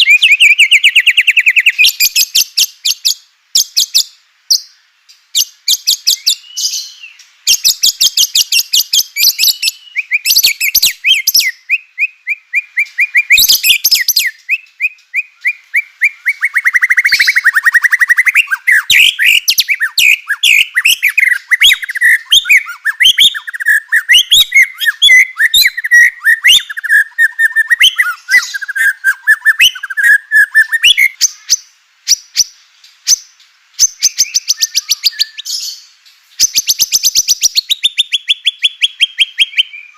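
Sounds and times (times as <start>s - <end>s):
bird singing varied song: 0.0s - 39.9s
rapid buzzy bird trill: 0.0s - 39.9s.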